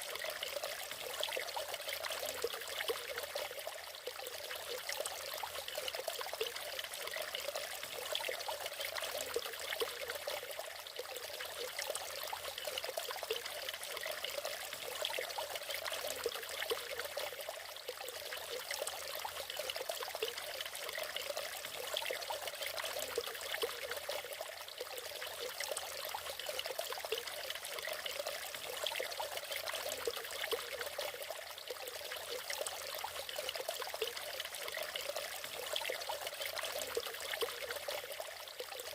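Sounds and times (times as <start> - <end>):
waterfall splashing and trickling: 0.0 - 38.9.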